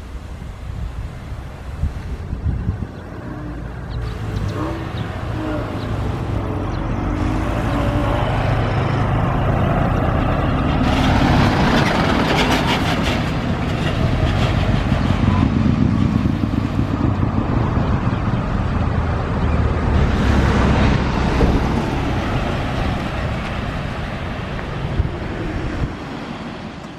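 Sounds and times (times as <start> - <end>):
fire engine rumble: 0.0 - 26.9.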